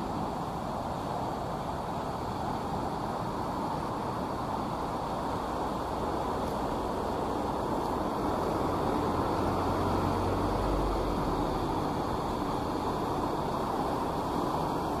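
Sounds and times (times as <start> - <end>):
river rushing over rapids: 0.0 - 15.0.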